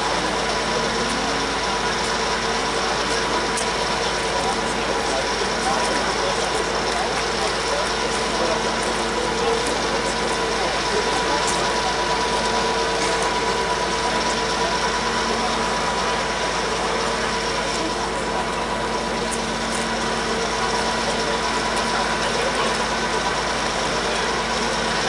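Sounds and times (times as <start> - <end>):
constant hum: 0.0 - 25.0
diesel locomotive engine racket: 0.0 - 25.0.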